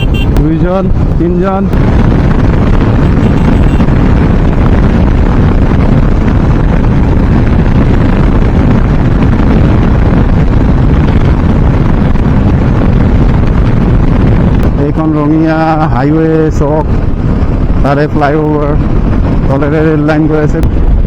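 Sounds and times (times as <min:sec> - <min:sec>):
motorcycle running: 0:00.0 - 0:21.0
road noise: 0:00.0 - 0:21.0
wind buffeting microphone: 0:00.0 - 0:21.0.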